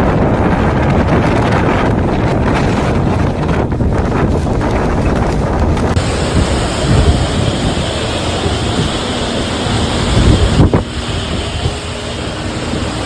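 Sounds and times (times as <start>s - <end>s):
wind buffeting microphone: 0.0s - 13.0s
rushing roar of storm: 2.0s - 13.0s.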